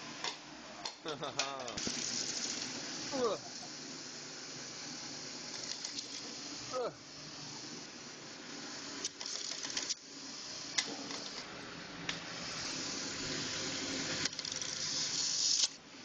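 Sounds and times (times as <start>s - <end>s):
belt sander hissing: 1.4s - 16.0s.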